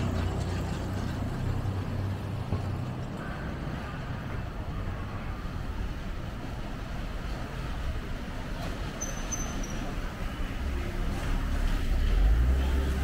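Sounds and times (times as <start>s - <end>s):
motor vehicle engine hum: 0.0s - 13.0s
road noise: 0.0s - 13.0s.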